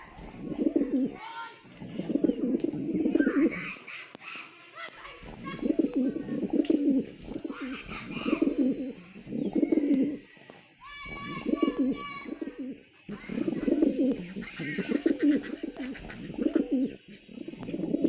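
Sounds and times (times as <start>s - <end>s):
pigeons cooing: 0.0s - 4.1s, 5.0s - 18.0s.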